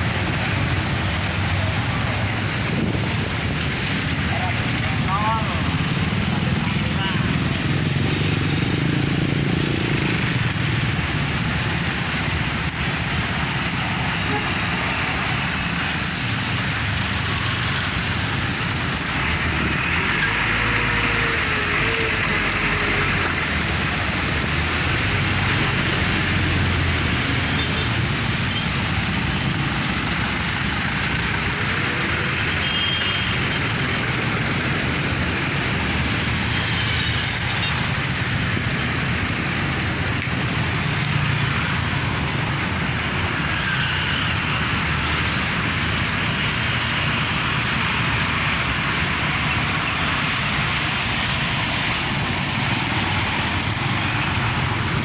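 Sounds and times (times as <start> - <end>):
dense road traffic: 0.0 - 55.0.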